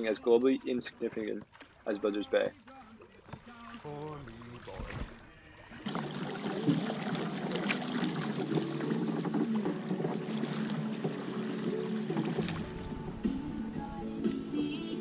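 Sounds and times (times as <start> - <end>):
water splashing around kayak: 0.0 - 15.0.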